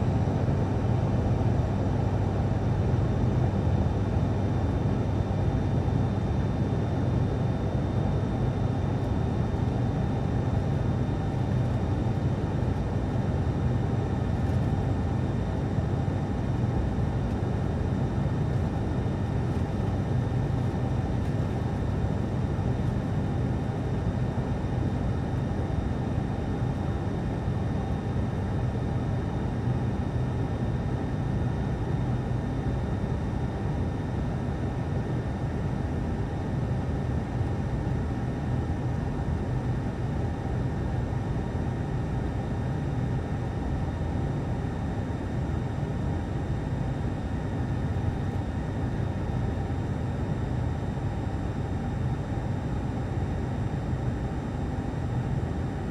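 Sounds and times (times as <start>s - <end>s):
airliner cabin drone: 0.0s - 55.9s.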